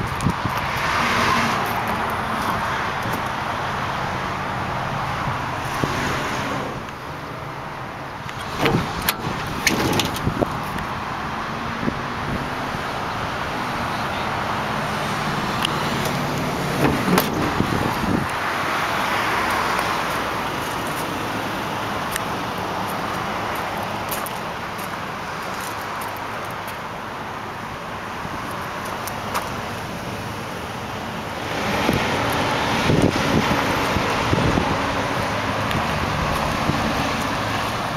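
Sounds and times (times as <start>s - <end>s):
highway traffic: 0.0s - 37.9s.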